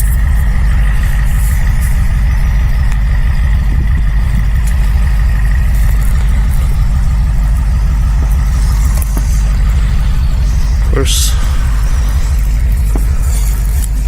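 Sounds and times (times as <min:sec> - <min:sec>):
engine running low rumble: 0:00.0 - 0:14.0
faint high whine: 0:00.0 - 0:14.0.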